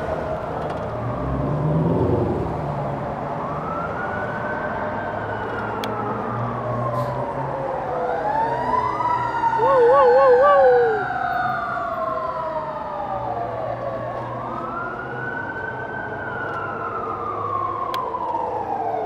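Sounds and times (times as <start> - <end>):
emergency vehicle siren wailing: 0.0 - 19.0
street noise: 0.0 - 19.0.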